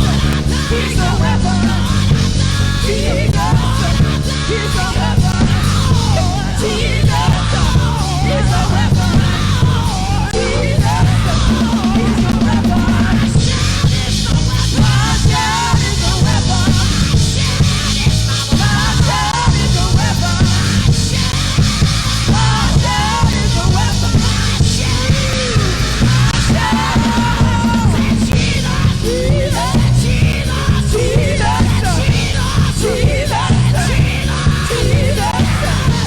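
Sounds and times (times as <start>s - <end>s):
live worship band playing: 0.0s - 36.0s
person singing and calling out: 0.0s - 36.0s
strong bass: 0.0s - 36.0s.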